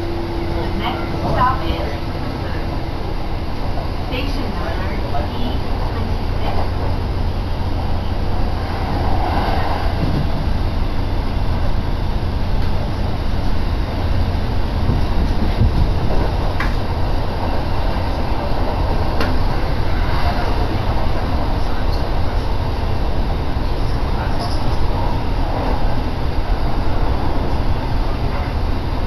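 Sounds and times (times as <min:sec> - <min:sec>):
electric train running noise: 0:00.0 - 0:29.0.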